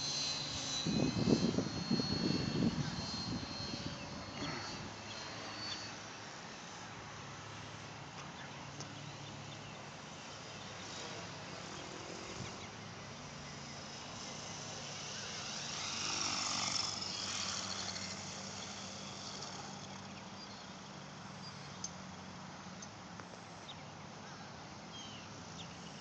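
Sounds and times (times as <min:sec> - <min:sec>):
model helicopter rotor noise: 0:00.0 - 0:26.0.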